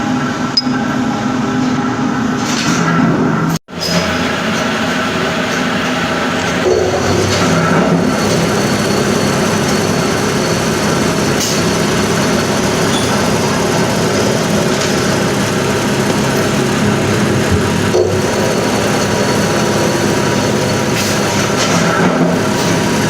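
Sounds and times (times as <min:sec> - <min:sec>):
heavy machinery running: 0:03.2 - 0:23.0.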